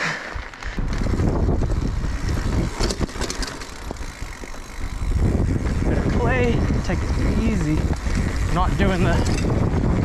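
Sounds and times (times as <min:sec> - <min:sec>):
bike tyre and drivetrain noise: 0:00.0 - 0:10.0
wind buffeting microphone: 0:00.6 - 0:10.0
bike knocks and rattles: 0:00.8 - 0:10.0.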